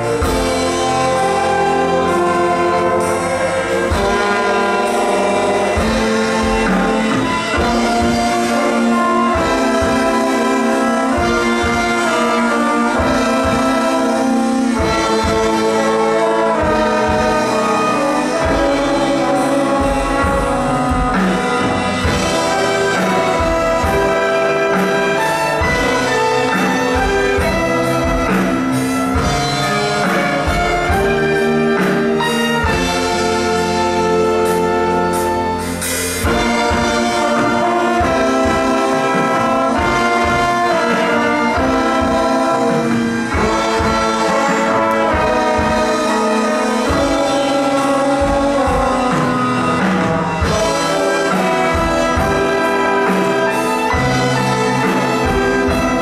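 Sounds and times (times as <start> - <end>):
brass instruments: 0.0 - 56.0
strings: 0.0 - 56.0.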